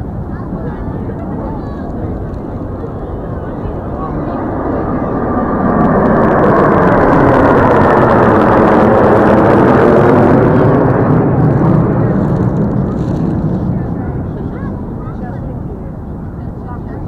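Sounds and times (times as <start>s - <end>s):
jet fighters roaring overhead: 0.0s - 17.0s.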